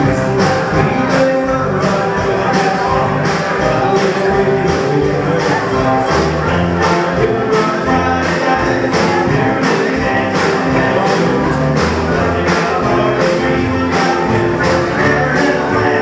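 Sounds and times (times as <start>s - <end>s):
live band playing dance music: 0.0s - 16.0s.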